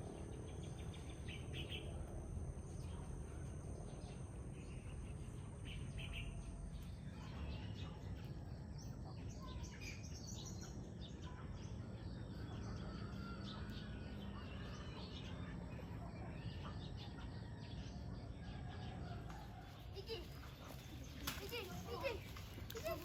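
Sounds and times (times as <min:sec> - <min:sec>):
steady low rumble: 0:00.0 - 0:19.8
small birds chirping: 0:00.0 - 0:23.0.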